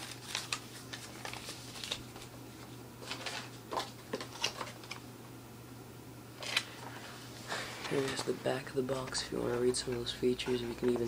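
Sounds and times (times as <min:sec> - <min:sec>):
paper and cardboard rustling: 0:00.0 - 0:05.0, 0:06.4 - 0:11.0
steady low hum: 0:00.0 - 0:11.0.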